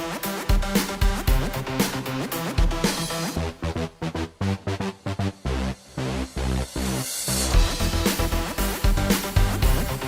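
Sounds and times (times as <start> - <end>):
electronic music with choppy beat: 0.0 - 10.0.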